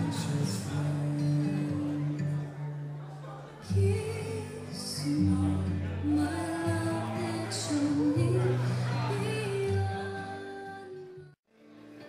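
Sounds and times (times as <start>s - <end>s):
song with singing and instruments: 0.0s - 2.7s, 3.6s - 11.4s.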